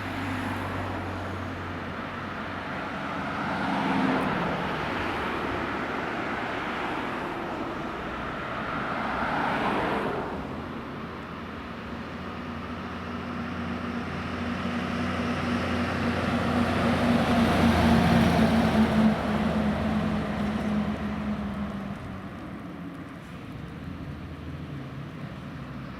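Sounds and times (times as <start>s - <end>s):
engine hum: 0.0s - 25.9s
traffic whoosh: 0.0s - 25.9s.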